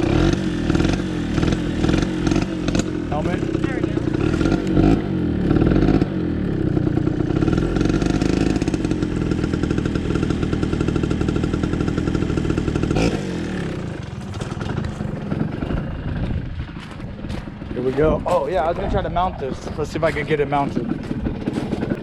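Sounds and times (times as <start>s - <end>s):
dirt bike engine revving and idling: 0.0s - 22.0s.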